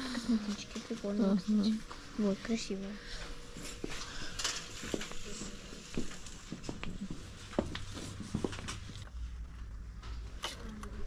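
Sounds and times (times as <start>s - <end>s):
low shop hum: 0.0s - 11.0s.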